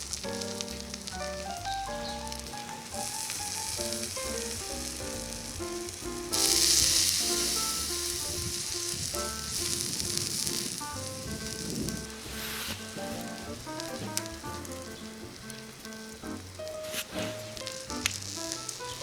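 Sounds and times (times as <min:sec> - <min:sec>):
food sizzling on hot plate: 0:00.0 - 0:19.0
light background music: 0:00.0 - 0:19.0.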